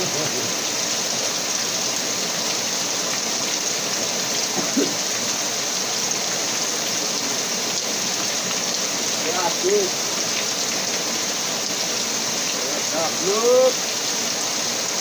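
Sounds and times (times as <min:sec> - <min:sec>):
steady hiss of water: 0:00.0 - 0:15.0.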